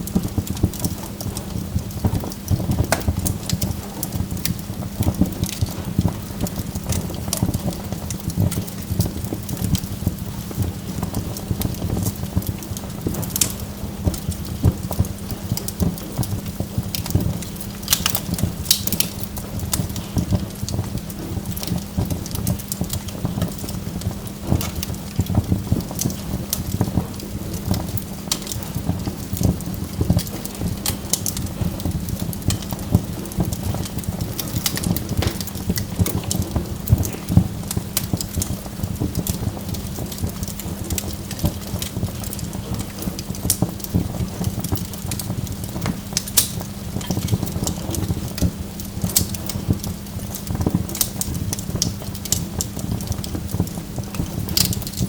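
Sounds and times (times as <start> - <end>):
fire crackling and popping: 0.0 - 55.0
wood fire low rumble: 0.0 - 55.0.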